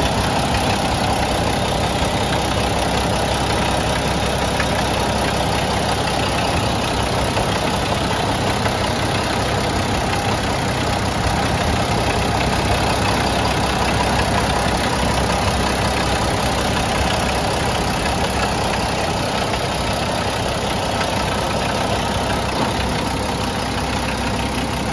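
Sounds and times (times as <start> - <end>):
diesel truck engine idling: 0.0 - 24.9.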